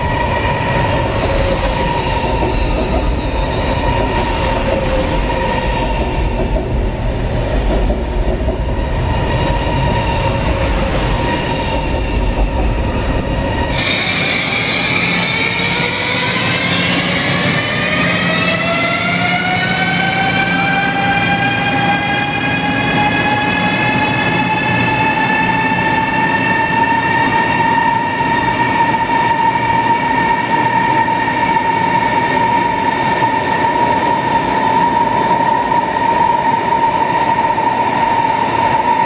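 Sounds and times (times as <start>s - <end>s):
train rolling noise: 0.0s - 39.0s.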